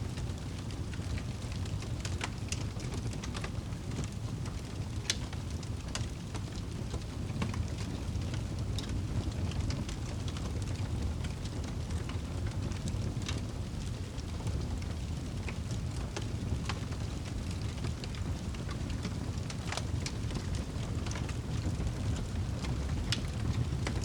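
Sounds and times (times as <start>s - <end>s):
fire crackling: 0.1s - 24.0s.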